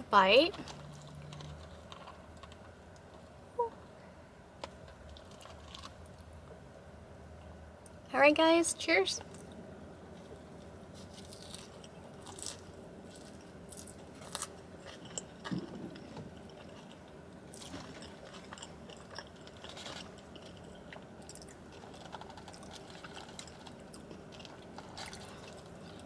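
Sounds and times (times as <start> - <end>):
chewing with crisp crunches: 0.5 - 3.9, 4.8 - 6.7, 9.2 - 26.0.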